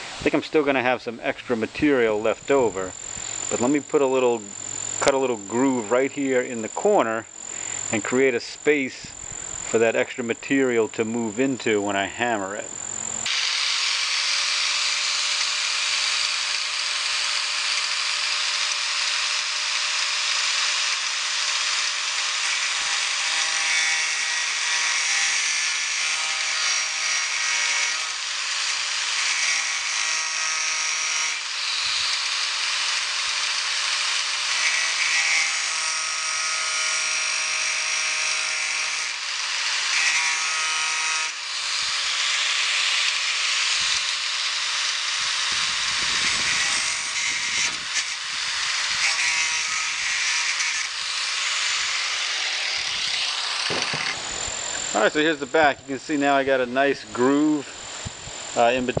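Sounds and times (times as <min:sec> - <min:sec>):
angle grinder cutting steel: 0:00.0 - 0:59.0
grinding disc whine: 0:01.1 - 0:59.0.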